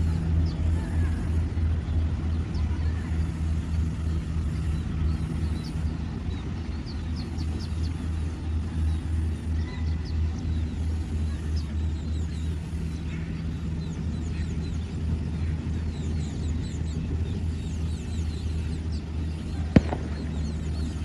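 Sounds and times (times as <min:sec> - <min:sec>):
harvesting machine engine droning: 0:00.0 - 0:21.0.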